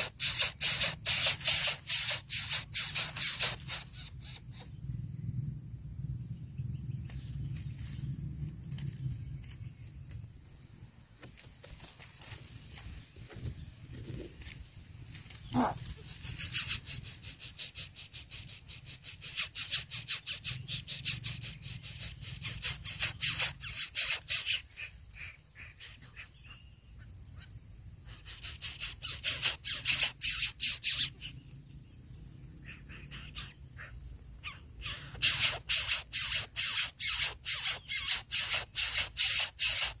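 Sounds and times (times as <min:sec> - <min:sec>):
high insect trill: 0:00.0 - 0:40.0.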